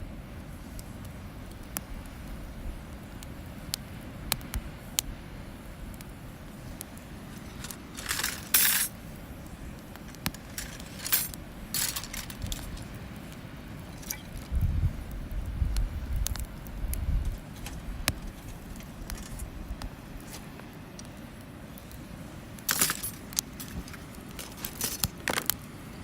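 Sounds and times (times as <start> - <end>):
campfire crackling: 0.0 - 26.0
fire hissing bursts: 0.3 - 26.0
fire pops: 0.4 - 26.0.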